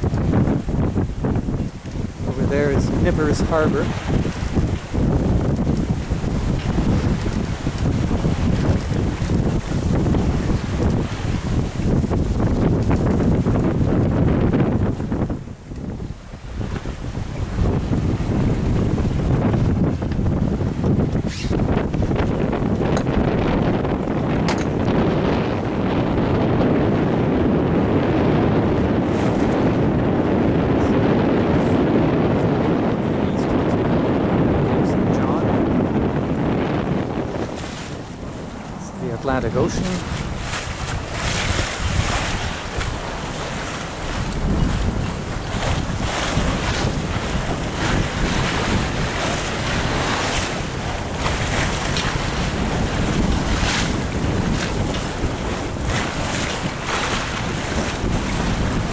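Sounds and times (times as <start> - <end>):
sea water rushing past hull: 0.0 - 58.9
wind buffeting microphone: 0.0 - 58.9.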